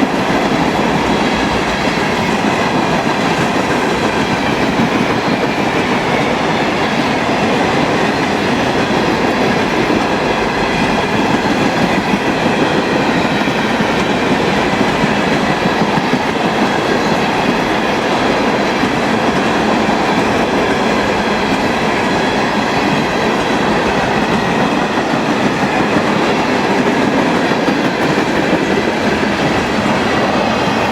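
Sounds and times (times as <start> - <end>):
clickety-clack over rail joints: 0.0 - 30.9
train wheels rumbling on rail: 0.0 - 30.9.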